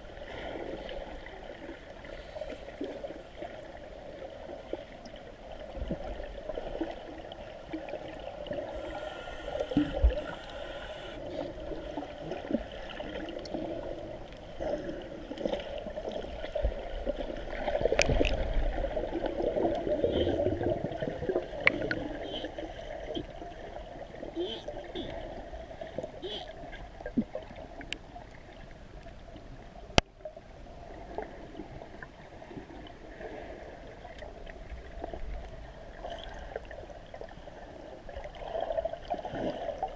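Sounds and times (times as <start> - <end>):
water gurgling and splashing: 0.0 - 29.4, 30.2 - 39.9.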